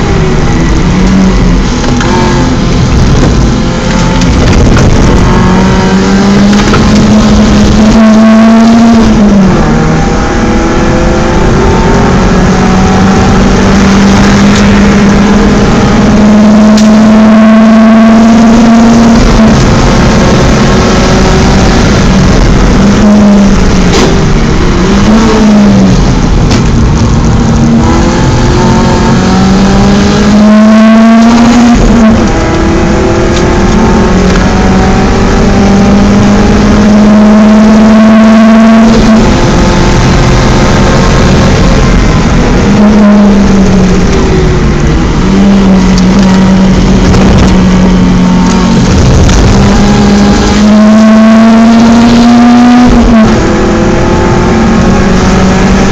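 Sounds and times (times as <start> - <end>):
car engine revving hard: 0.0 - 55.9.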